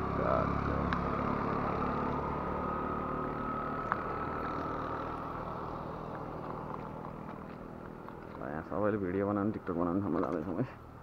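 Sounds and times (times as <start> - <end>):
vehicle engine running at low revs: 0.0 - 9.8.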